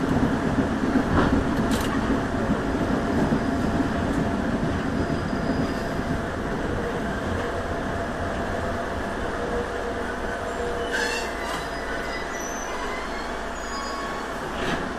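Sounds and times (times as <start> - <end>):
electric train rumbling on rails: 0.0 - 14.9.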